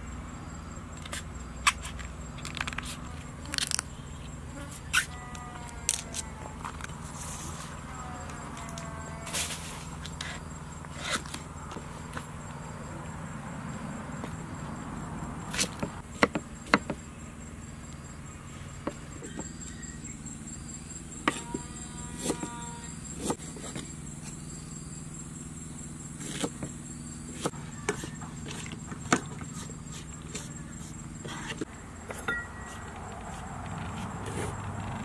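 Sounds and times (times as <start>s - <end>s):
high-pitched insect trill: 0.0s - 35.0s.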